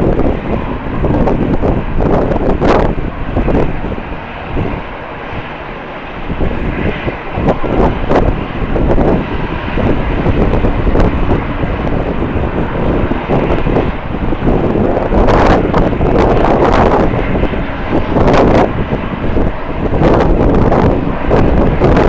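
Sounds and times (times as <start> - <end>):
jet engines running: 0.0 - 22.0
wind buffeting microphone: 0.0 - 22.0.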